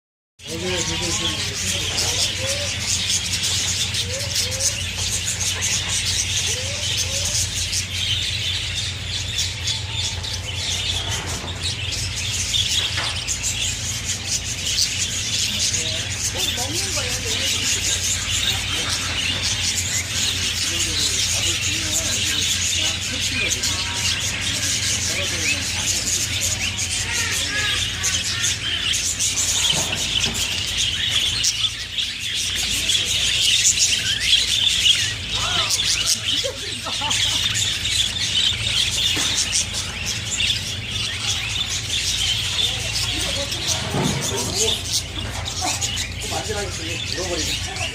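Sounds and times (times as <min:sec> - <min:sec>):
small birds chirping: 0:00.4 - 0:47.9.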